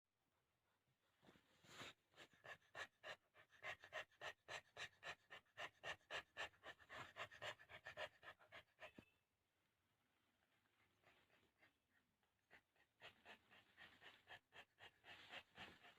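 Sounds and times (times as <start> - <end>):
dog panting: 1.6 - 9.1, 10.5 - 15.9.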